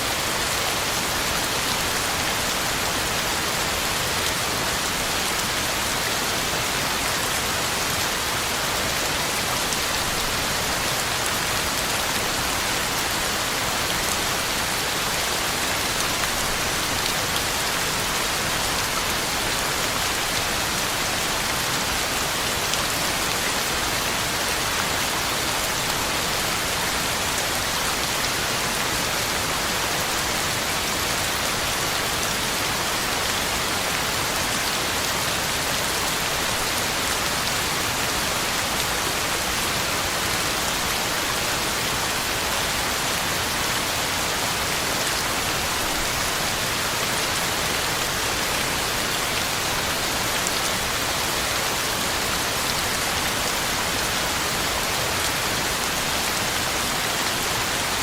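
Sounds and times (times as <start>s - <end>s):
heavy rain on ground and leaves: 0.0s - 58.0s.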